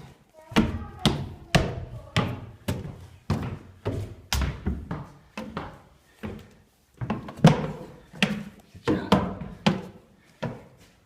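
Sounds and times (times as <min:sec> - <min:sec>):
footsteps climbing stairs: 0:00.0 - 0:11.0.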